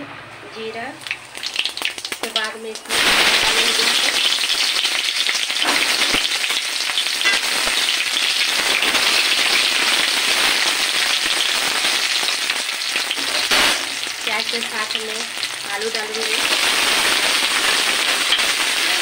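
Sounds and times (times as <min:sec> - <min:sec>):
seeds sizzling in hot oil: 0:01.0 - 0:19.0.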